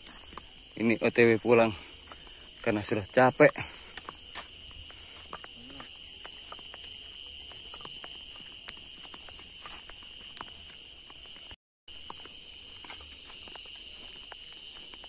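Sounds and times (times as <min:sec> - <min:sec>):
footsteps in flip-flops on dirt: 0:00.0 - 0:15.0
night insects droning: 0:00.0 - 0:15.0.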